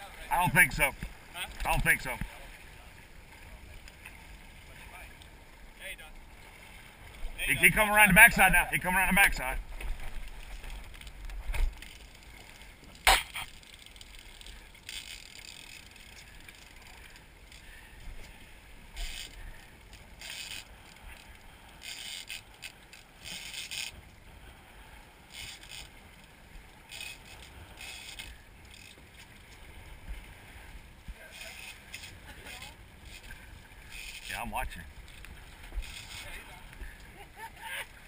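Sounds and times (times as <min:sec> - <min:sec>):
water splashing against boat: 0:00.0 - 0:38.0.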